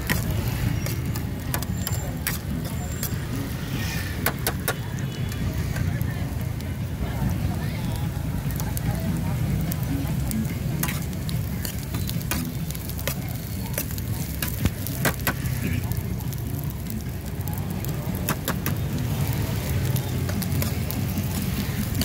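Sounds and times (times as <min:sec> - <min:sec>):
corn sizzling in a pan: 0:00.0 - 0:22.0.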